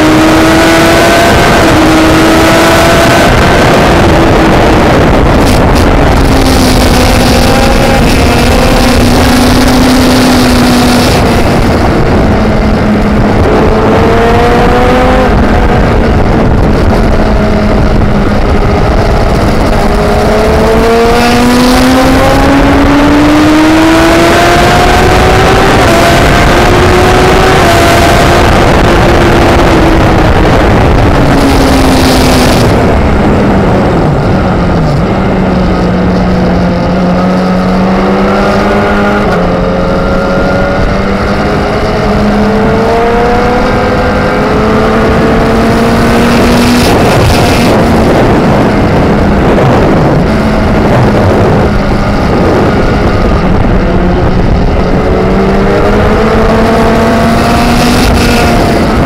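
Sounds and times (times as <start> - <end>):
racing motorcycle engine: 0.0 - 59.0
wind rush on microphone: 0.0 - 59.0.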